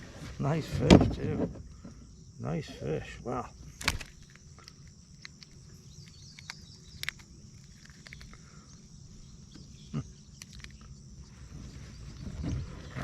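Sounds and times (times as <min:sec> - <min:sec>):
high insect chorus: 0:00.0 - 0:13.0.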